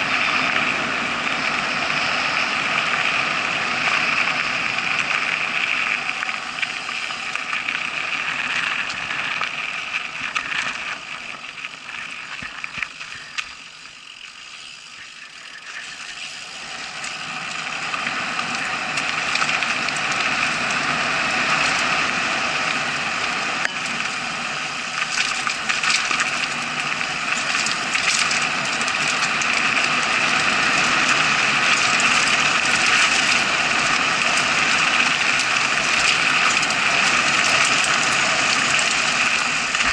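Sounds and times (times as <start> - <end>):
bike rattling and clicking: 0.0 - 39.9.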